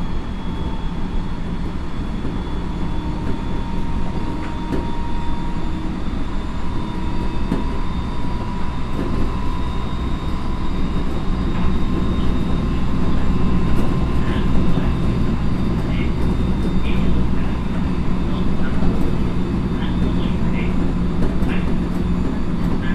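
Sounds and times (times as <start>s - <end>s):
inverter whine: 0.0s - 22.9s
wheels rumbling on rail: 0.0s - 22.9s.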